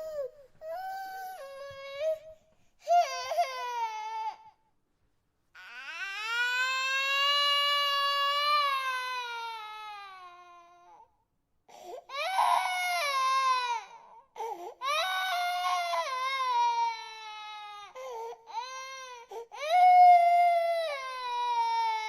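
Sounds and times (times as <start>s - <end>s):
infant crying: 0.0s - 4.6s, 5.6s - 11.1s, 11.7s - 22.0s.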